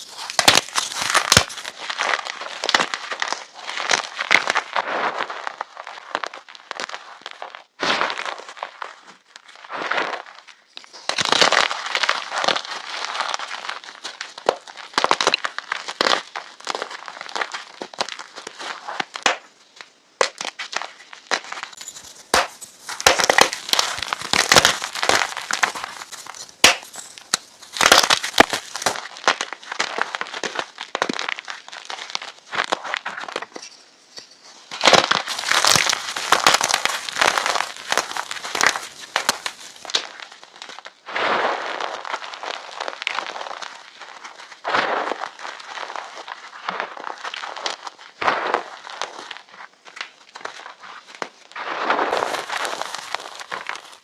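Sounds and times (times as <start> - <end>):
chalk crunching and snapping: 0.0 - 54.0.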